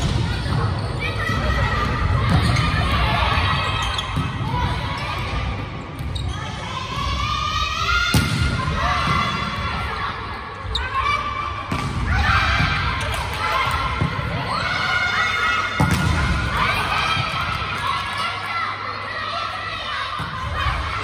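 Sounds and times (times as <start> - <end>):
players calling and shouting: 0.0 - 21.0.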